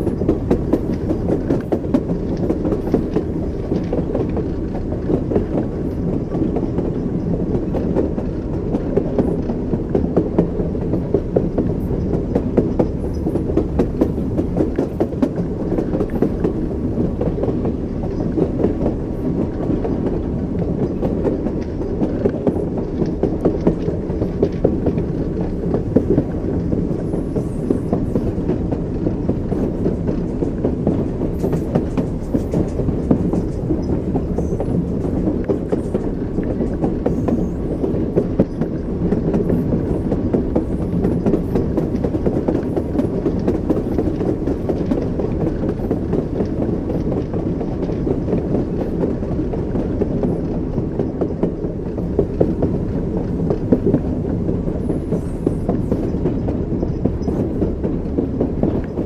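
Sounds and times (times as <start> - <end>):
low train rumble: 0.0 - 59.0
train wheels clacking: 0.0 - 59.0.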